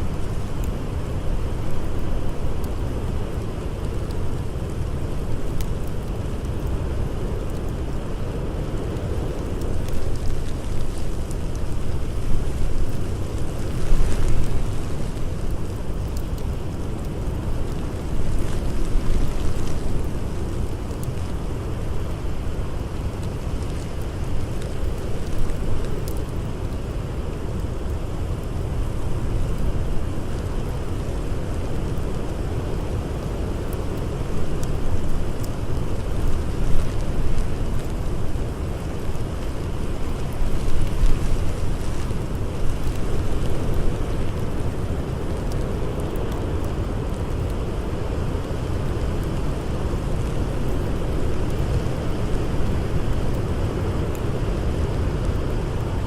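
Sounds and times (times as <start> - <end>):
blizzard wind rumbling: 0.0 - 56.0
campfire crackles: 0.0 - 56.0.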